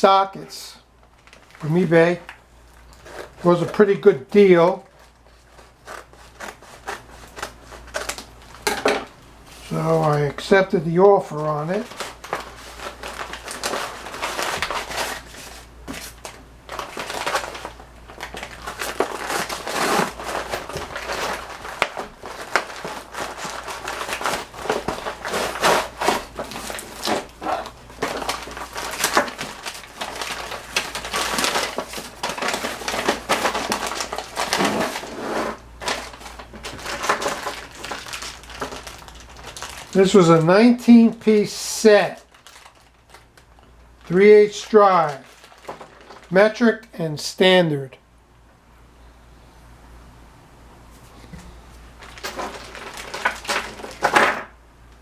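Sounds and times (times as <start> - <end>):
packaging crinkling: 1.0 - 3.8, 4.7 - 10.4, 11.7 - 46.6, 51.3 - 54.4.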